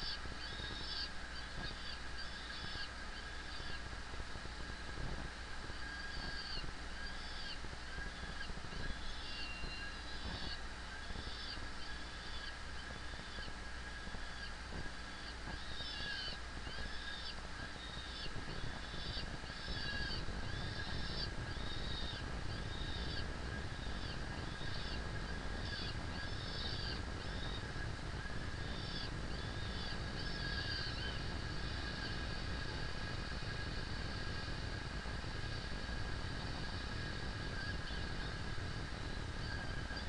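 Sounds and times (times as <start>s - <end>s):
falcon calling: 0.0s - 3.9s, 5.7s - 34.5s.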